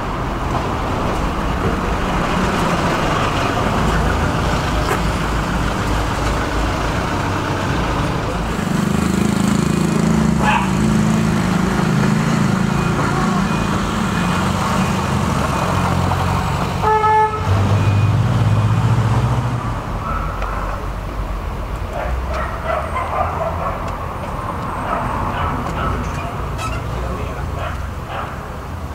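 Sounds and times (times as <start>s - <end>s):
vehicle engine rumble passing: 0.0s - 28.9s.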